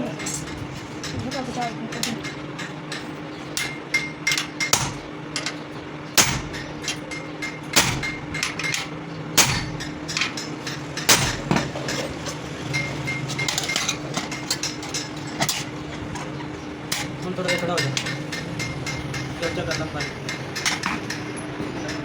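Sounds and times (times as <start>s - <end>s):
hammer striking metal: 0.0s - 15.6s, 16.9s - 22.0s.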